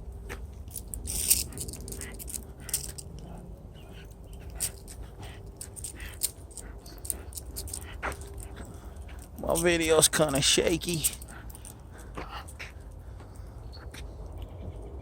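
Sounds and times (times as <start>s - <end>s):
footsteps clicks and scuffs: 0.0s - 14.6s.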